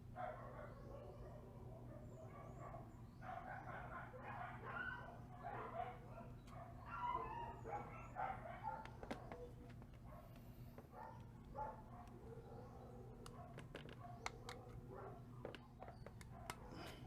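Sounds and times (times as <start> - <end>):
dog barking: 0.2 - 10.3, 10.9 - 15.4, 16.3 - 16.9.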